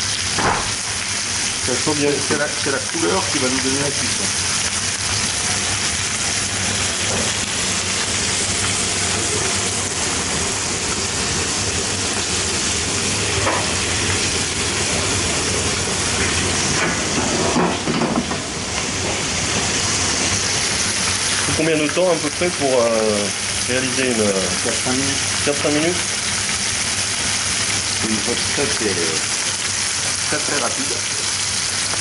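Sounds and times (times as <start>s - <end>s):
frying hiss in butter: 0.0s - 32.0s.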